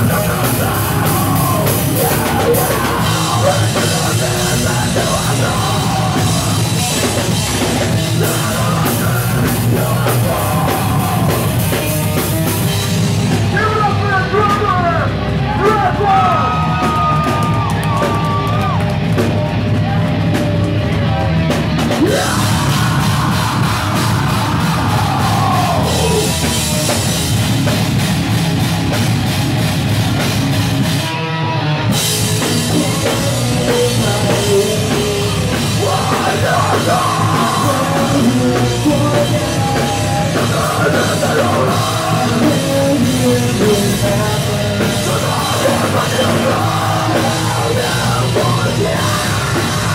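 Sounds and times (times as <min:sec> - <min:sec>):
heavy metal band playing: 0:00.0 - 0:49.9.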